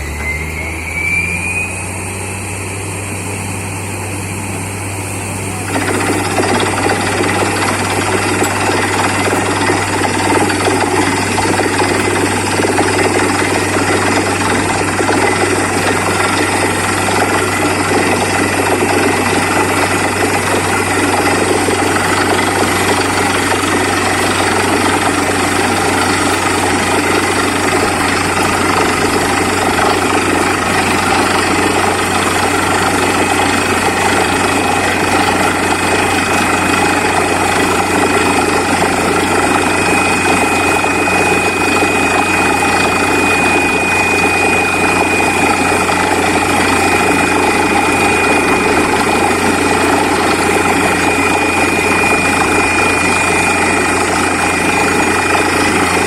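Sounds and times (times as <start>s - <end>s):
drilling rig drone: 0.0s - 56.0s
thin high whine: 0.0s - 56.0s.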